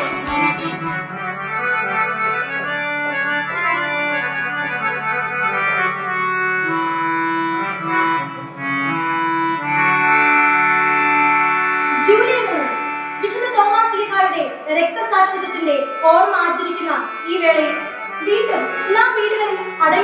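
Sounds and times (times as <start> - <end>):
organ-like electronic keyboard: 0.0 - 20.0.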